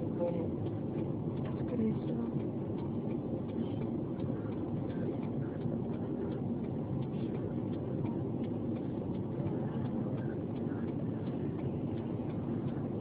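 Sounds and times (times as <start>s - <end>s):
car engine idling: 0.0s - 13.0s
light regular ticking: 0.0s - 13.0s.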